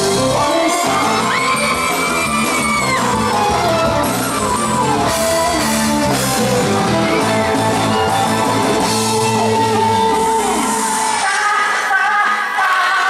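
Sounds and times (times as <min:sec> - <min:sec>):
drum kit: 0:00.0 - 0:12.5
guitar: 0:00.0 - 0:13.0.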